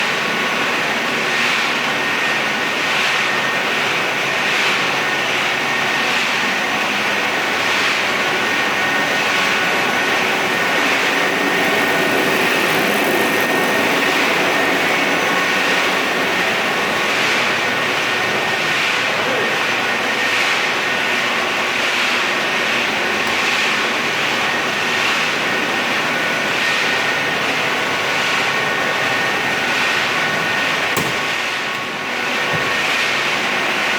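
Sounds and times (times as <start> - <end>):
machinery running: 0.0 - 33.9.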